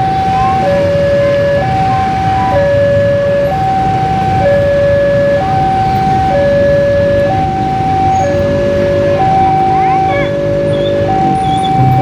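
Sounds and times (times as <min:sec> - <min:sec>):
two-tone emergency siren: 0:00.0 - 0:12.0.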